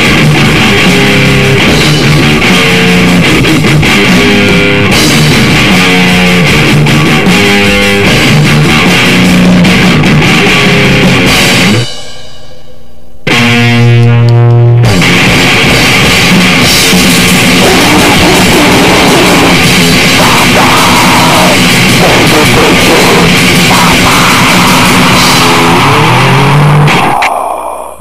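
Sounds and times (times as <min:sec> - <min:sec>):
distorted noise-grind music: 0:00.0 - 0:28.0.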